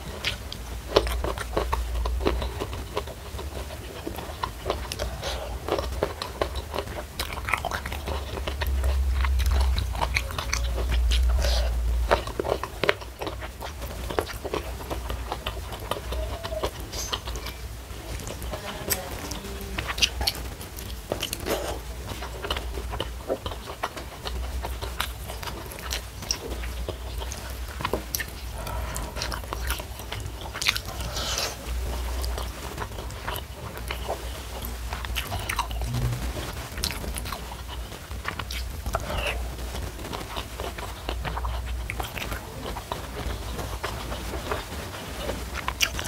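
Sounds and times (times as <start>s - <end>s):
chewing crunchy fried food: 0.0s - 46.0s.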